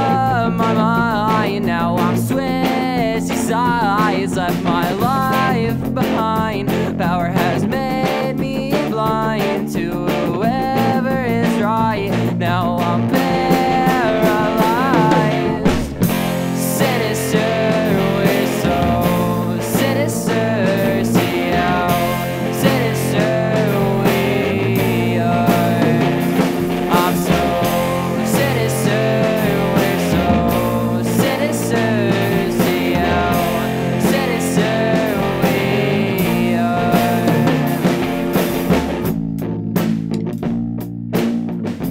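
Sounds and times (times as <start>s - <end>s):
guitar-led rock band: 0.0s - 41.9s.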